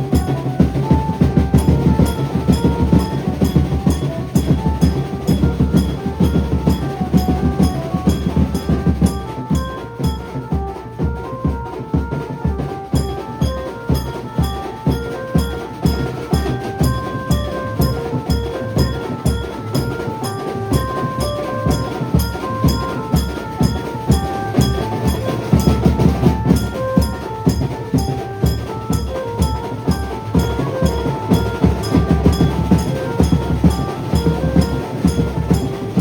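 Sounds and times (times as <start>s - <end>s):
amplified banjo melody: 0.0s - 36.0s
fast drumming: 0.0s - 36.0s.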